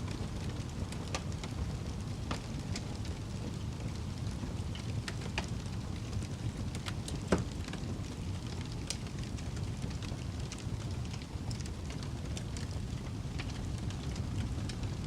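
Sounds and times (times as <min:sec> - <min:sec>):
fire popping and snapping: 0:00.0 - 0:15.0
low rumble of burning: 0:00.0 - 0:15.0.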